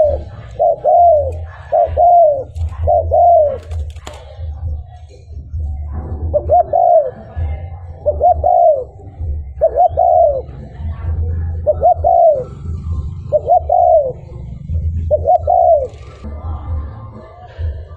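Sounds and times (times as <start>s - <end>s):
dove cooing: 0.0s - 16.3s
steady low rumble: 0.0s - 17.9s.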